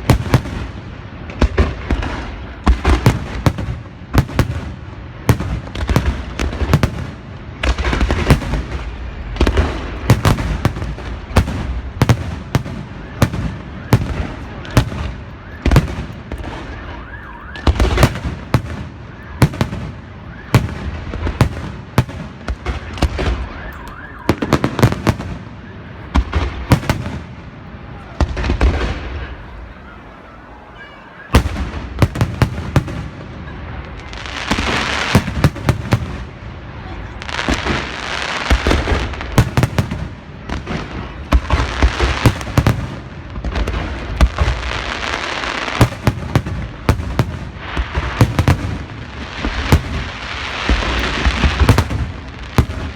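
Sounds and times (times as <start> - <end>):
fireworks bangs and cracks: 0.0 - 52.9.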